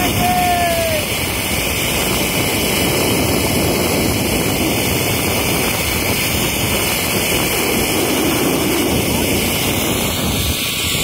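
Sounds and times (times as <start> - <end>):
rushing white-water river: 0.0 - 11.0
wind on microphone: 0.0 - 11.0.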